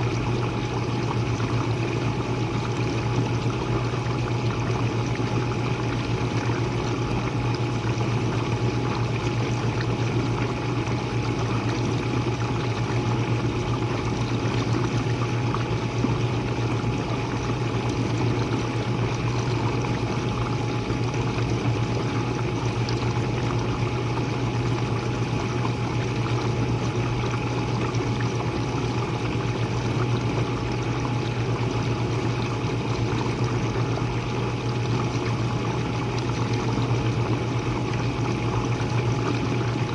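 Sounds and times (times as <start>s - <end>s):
dishwasher motor hum: 0.0s - 39.9s.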